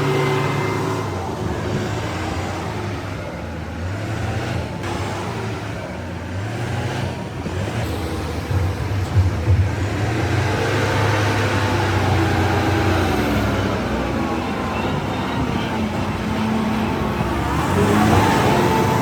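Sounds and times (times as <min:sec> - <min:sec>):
construction vehicle engine running: 0:00.0 - 0:19.0.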